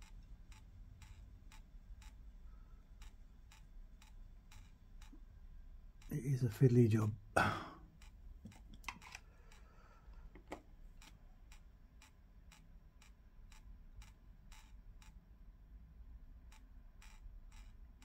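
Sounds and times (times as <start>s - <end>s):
faint even ticking: 0.0s - 18.0s
low room hum: 0.0s - 18.0s.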